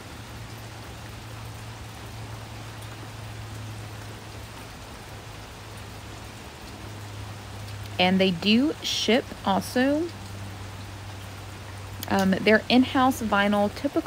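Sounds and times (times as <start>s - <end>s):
low constant hum: 0.0s - 14.0s
steady rain hiss: 0.0s - 14.0s.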